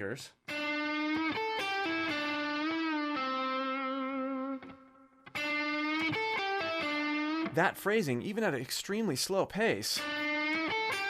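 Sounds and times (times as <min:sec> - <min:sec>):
electric guitar phrase: 0:00.5 - 0:08.3, 0:10.0 - 0:11.0.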